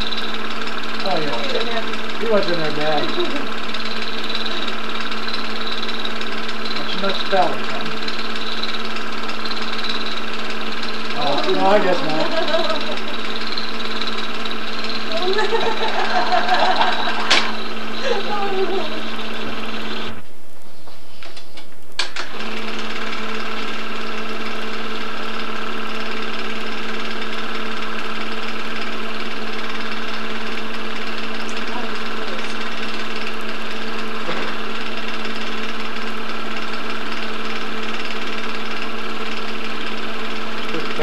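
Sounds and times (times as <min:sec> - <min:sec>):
film projector whirring: 0:00.0 - 0:41.0.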